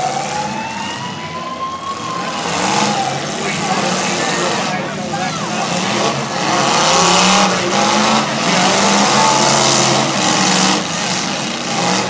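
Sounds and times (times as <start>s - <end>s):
car engines revving hard: 0.0s - 12.0s
loud noisy rush: 0.0s - 12.0s.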